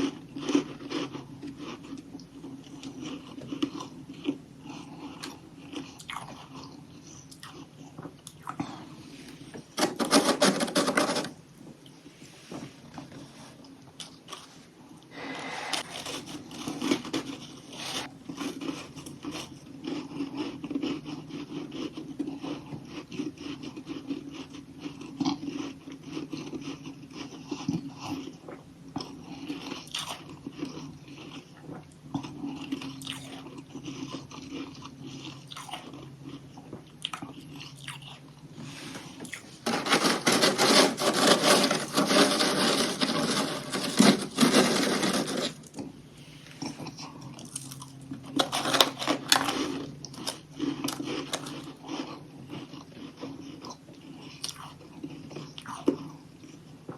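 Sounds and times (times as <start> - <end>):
chewing crunchy frost: 0.0 - 11.1, 13.2 - 45.9, 46.6 - 56.9.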